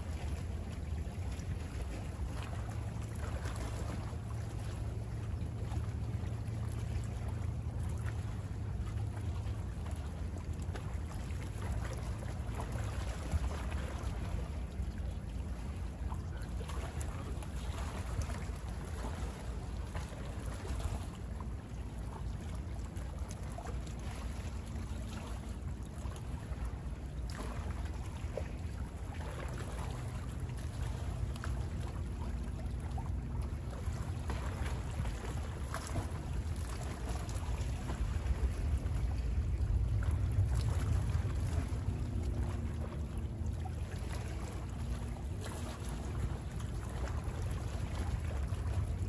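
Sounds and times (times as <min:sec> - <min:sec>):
distant boat engine hum: 0:00.0 - 0:49.0
small waves lapping: 0:00.0 - 0:49.0
wind rumble on microphone: 0:00.0 - 0:49.0.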